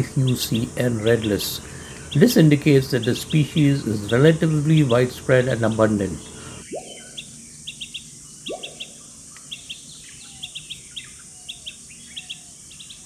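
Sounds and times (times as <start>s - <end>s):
birds chirping: 0.0s - 13.0s
steady high hiss: 0.0s - 13.0s.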